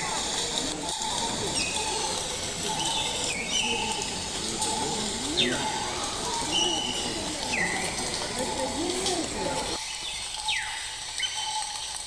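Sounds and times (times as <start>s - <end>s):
bird chirps: 0.9s - 9.1s, 9.8s - 12.0s.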